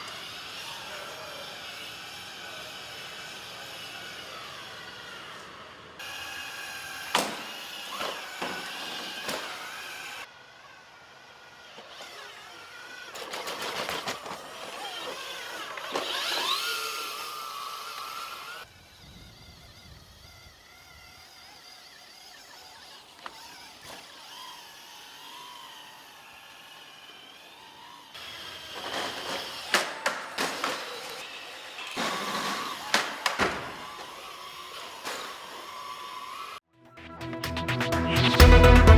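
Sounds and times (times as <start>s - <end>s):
mechanical whirs gliding in pitch: 0.0s - 38.6s.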